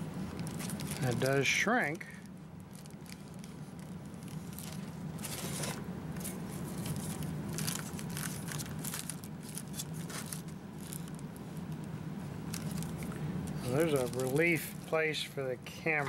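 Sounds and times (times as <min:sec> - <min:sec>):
steady low hum: 0:00.0 - 0:16.0
plastic film crinkling: 0:00.2 - 0:01.4, 0:02.6 - 0:05.8, 0:06.6 - 0:15.2.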